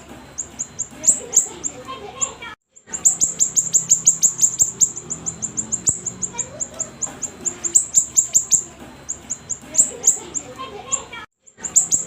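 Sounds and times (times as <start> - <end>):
songbird high chips: 0.3 - 12.0.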